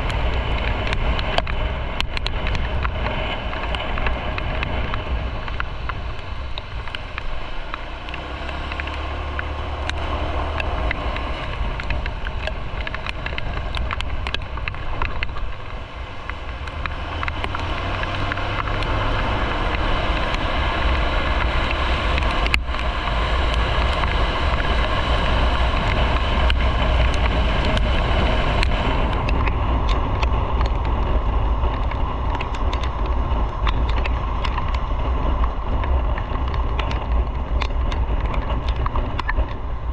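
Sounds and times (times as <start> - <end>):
motorcycle engine and road rumble: 0.0 - 39.9
wind rush: 0.0 - 39.9.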